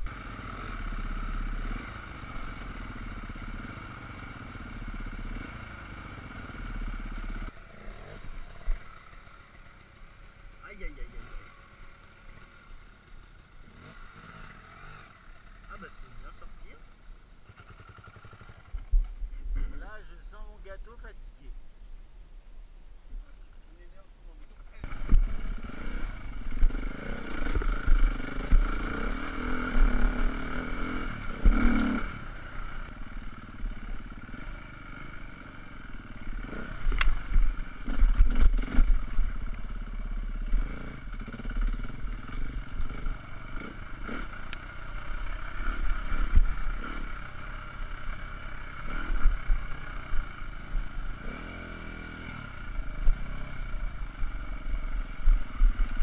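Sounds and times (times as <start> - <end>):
dirt bike engine revving: 0.0 - 20.4, 24.8 - 56.0.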